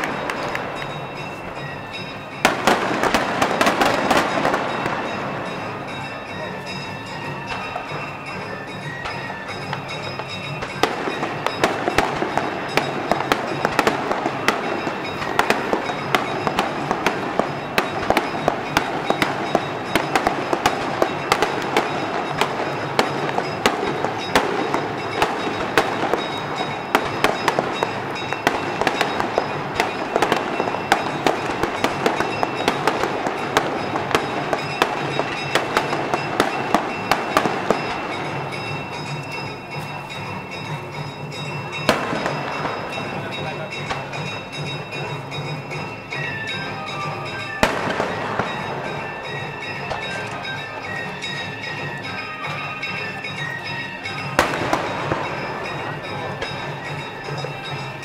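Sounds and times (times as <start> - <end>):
fireworks popping and banging: 0.0 - 58.0.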